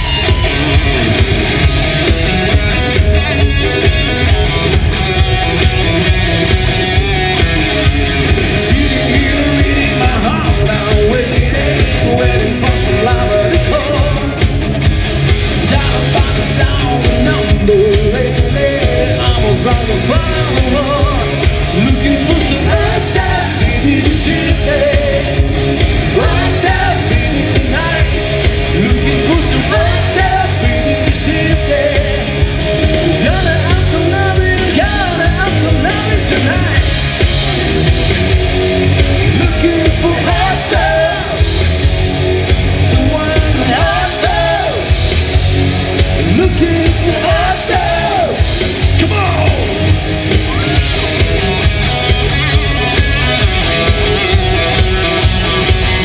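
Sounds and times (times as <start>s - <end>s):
bass guitar: 0.0s - 56.0s
drums: 0.0s - 56.0s
electric guitars: 0.0s - 56.0s.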